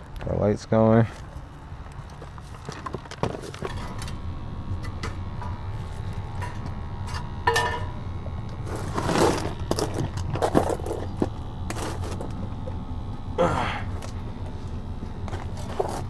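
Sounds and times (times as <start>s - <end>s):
furnace humming: 0.0s - 16.0s.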